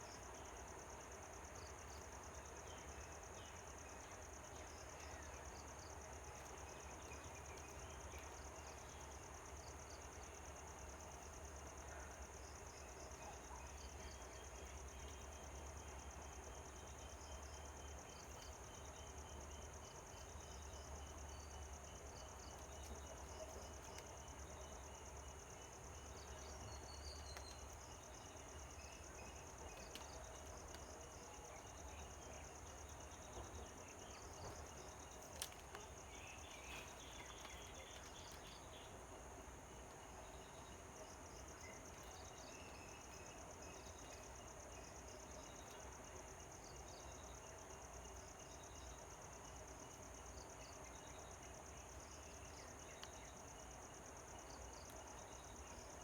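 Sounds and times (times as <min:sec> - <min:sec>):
insects trilling: 0:01.5 - 0:56.0.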